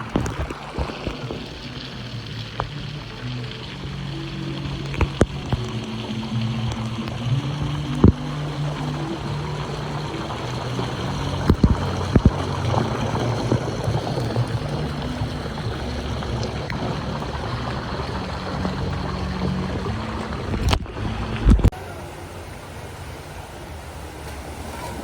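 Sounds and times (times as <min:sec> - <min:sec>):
background music: 0:00.0 - 0:25.0
running water: 0:00.0 - 0:25.0.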